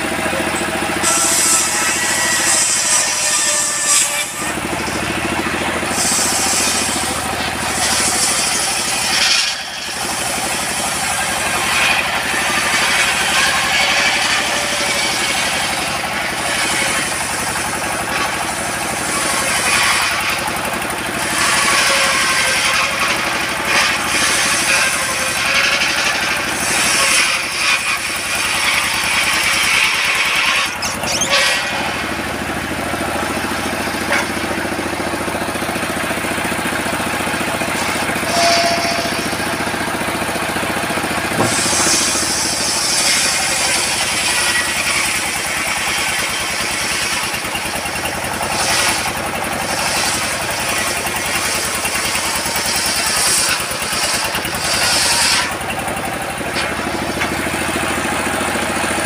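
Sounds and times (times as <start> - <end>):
circular saw cutting wood: 0.0 - 59.0
diesel engine running: 0.0 - 59.0.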